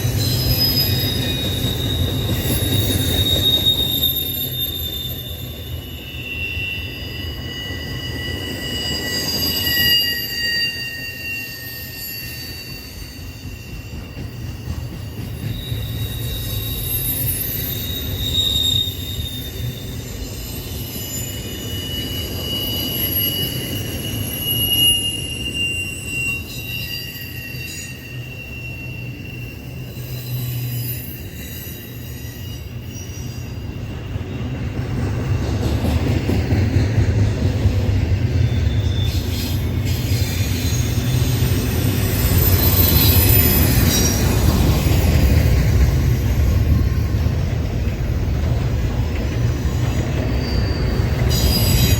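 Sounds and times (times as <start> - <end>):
freight train rumble: 0.0 - 51.9
train wheels squealing: 0.0 - 51.9.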